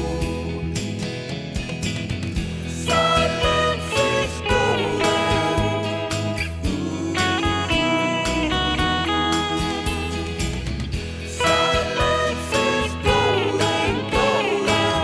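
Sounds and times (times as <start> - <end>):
bass and drums: 0.0 - 15.0
electric guitar gliding melody: 2.9 - 15.0.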